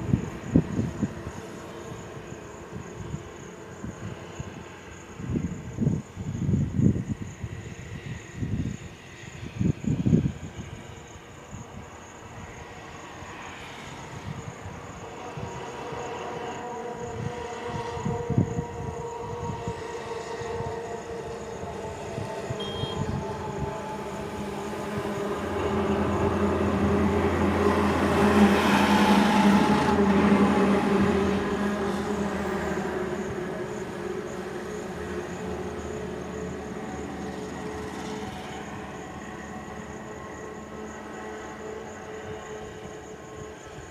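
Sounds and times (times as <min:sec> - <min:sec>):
highway truck traffic rumble: 0:00.0 - 0:43.9.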